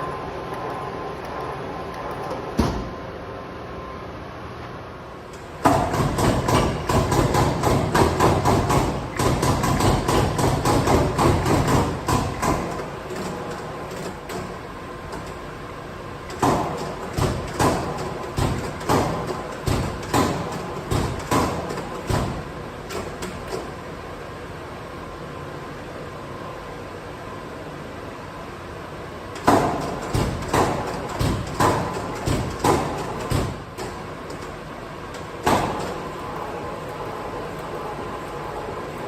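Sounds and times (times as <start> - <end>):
power press flywheel humming: 0.0 - 26.5, 28.2 - 39.0.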